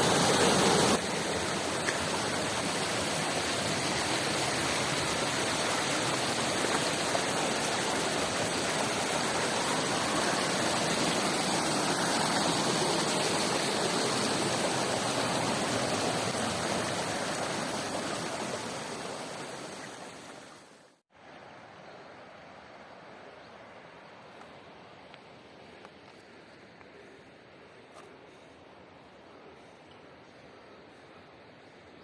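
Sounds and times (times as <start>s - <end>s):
mountain stream rushing: 0.0s - 26.5s
steady background hiss: 0.0s - 32.0s.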